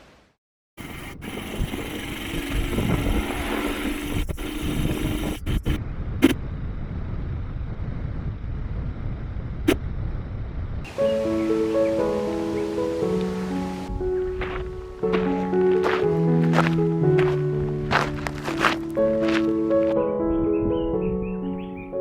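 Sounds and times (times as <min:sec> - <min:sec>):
road and wind noise: 0:01.2 - 0:11.3, 0:11.9 - 0:20.8.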